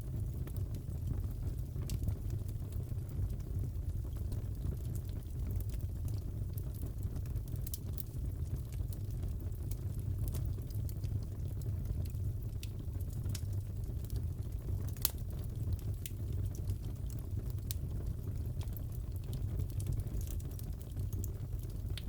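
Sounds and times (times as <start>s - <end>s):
fireplace crackling and popping: 0.0s - 22.0s.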